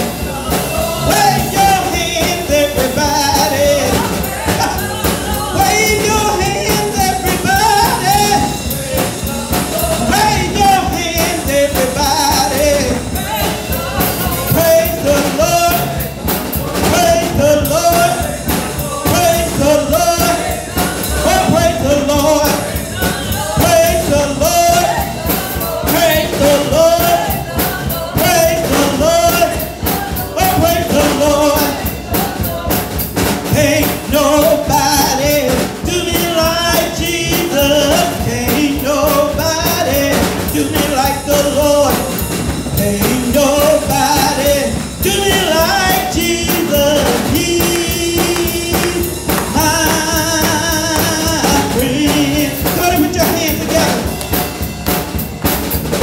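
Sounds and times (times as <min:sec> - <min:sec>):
woman singing gospel: 0:00.0 - 0:54.3
instrumental accompaniment: 0:00.0 - 0:56.0
steady drum beat: 0:00.0 - 0:56.0.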